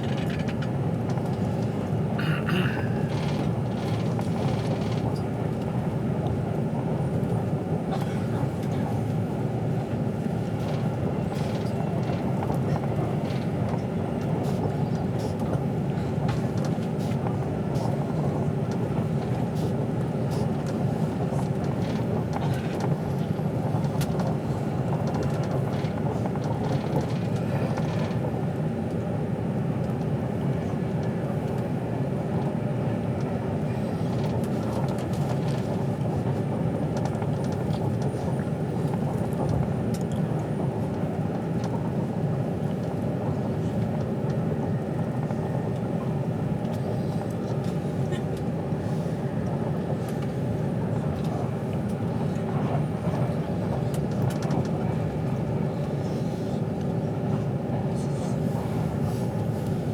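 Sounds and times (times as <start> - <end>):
constant hum: 0.0 - 59.9
train rumble: 0.0 - 59.9.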